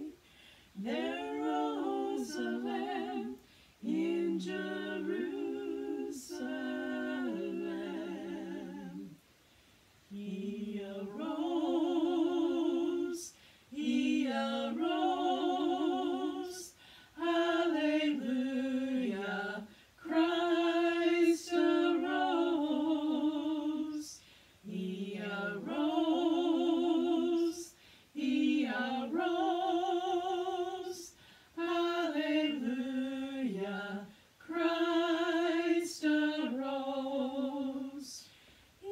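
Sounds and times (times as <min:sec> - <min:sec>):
women singing in harmony: 0:00.0 - 0:09.4, 0:10.0 - 0:38.9.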